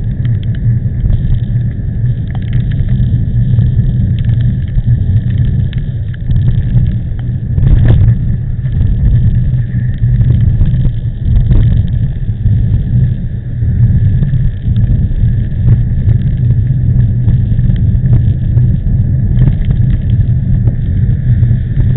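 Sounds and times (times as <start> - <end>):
strong wind buffeting microphone: 0.0 - 21.9.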